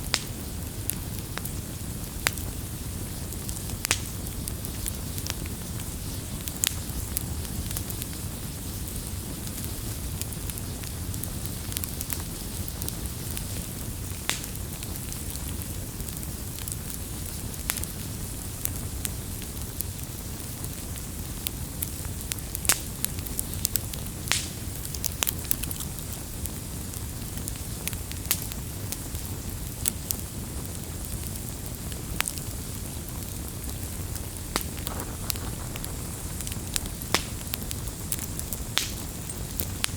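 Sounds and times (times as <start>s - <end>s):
burning wood crackling: 0.0s - 39.9s
campfire low rumble: 0.0s - 39.9s.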